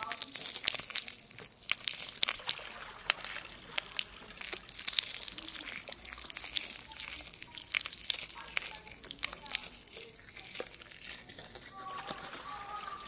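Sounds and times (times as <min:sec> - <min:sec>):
wet crackles of lather in hair: 0:00.0 - 0:13.0.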